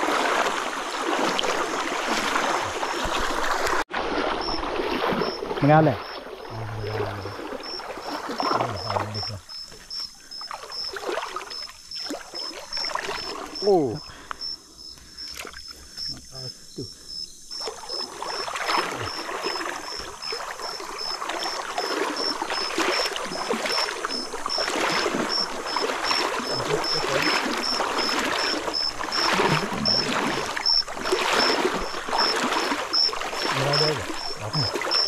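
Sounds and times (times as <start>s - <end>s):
shallow river water splashing: 0.0s - 35.0s.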